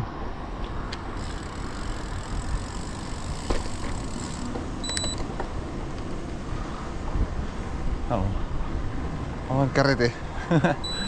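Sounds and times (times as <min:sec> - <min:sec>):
bicycle road rumble: 0:00.0 - 0:11.0.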